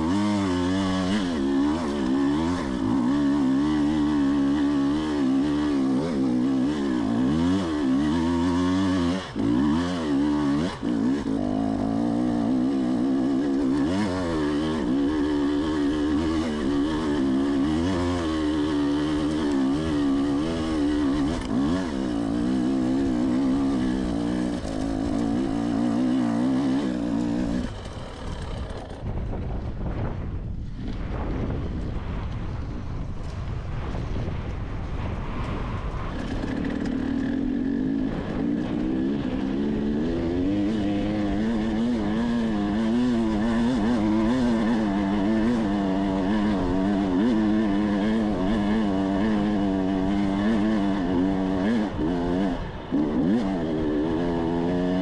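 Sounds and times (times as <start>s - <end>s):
dirt bike engine revving: 0.0s - 29.1s, 36.1s - 55.0s.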